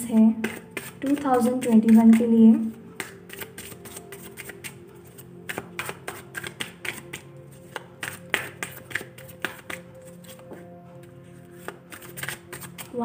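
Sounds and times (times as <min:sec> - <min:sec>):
soft background music: 0:00.0 - 0:13.0
cards being shuffled: 0:00.4 - 0:10.7, 0:11.5 - 0:13.0.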